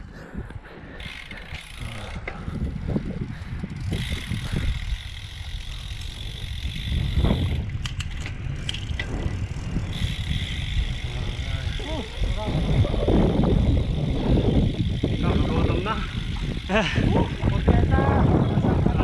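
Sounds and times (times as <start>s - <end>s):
wind rumble on microphone: 0.0s - 19.0s
bicycle freewheel buzzing: 0.2s - 19.0s.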